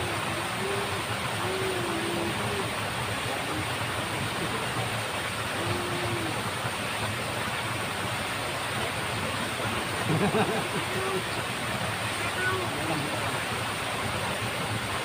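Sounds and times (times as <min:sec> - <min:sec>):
water rushing through ditch: 0:00.0 - 0:15.0.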